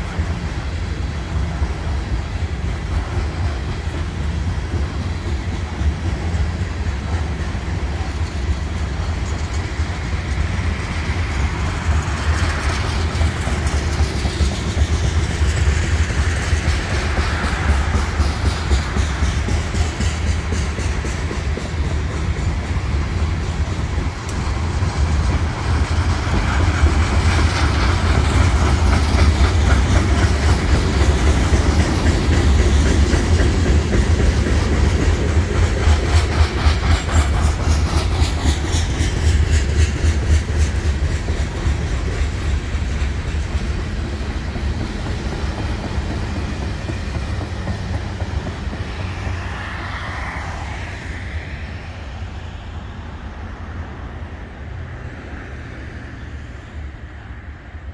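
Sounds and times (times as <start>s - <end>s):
wheels clicking over rail joints: 0.0s - 51.3s
freight train rumble: 0.0s - 57.9s.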